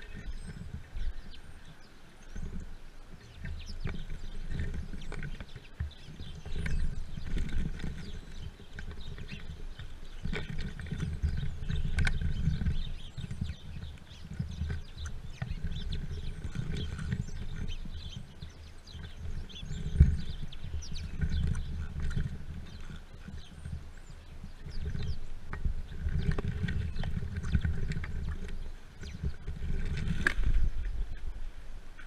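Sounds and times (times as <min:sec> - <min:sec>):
birds flapping against feeder: 0:00.0 - 0:31.2
birds chirping: 0:00.0 - 0:32.0
beaks tapping on feeder: 0:03.2 - 0:30.6.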